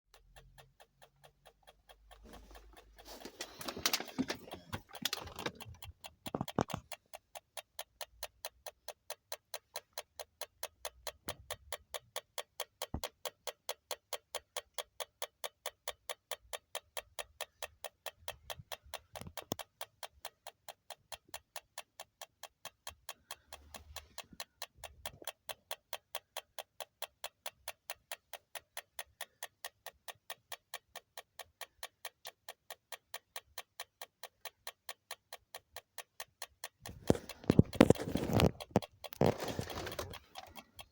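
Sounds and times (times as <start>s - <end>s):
rapid regular ticking: 0.2s - 40.9s.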